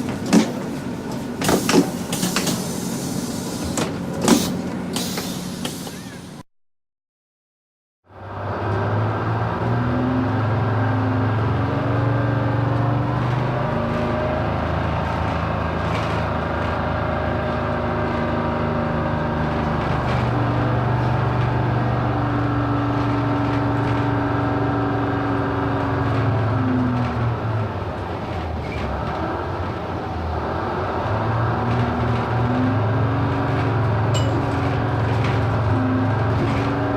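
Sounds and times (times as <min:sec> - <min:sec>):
bus engine running: 0:00.0 - 0:06.4, 0:08.1 - 0:36.9.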